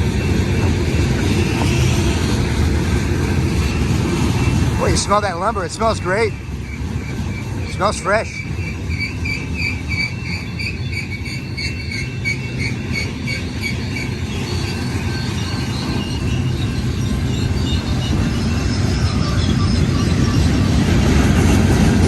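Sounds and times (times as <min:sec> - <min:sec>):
freight train rumbling past: 0:00.0 - 0:22.0
pulsing high ringing tone: 0:00.0 - 0:22.0.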